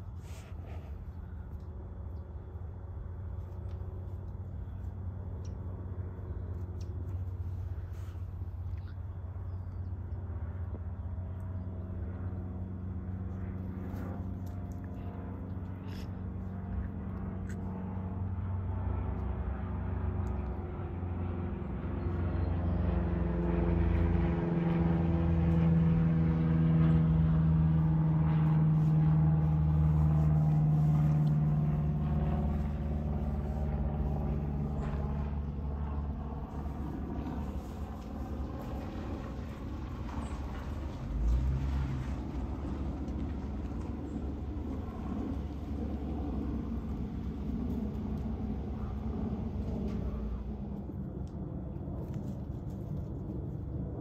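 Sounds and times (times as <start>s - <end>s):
passing vehicle engine hum: 0.0s - 54.0s.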